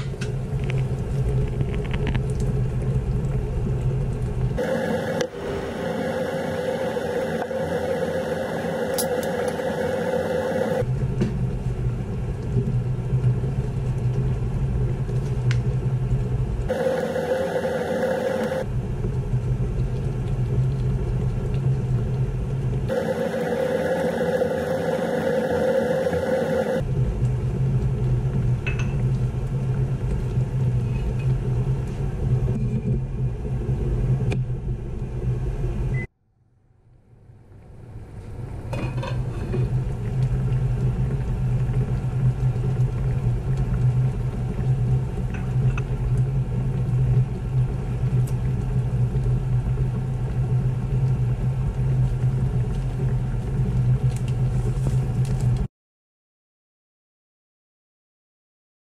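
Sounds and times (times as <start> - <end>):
kitchen machinery rumble and whir: 0.0 - 36.1, 36.7 - 55.7.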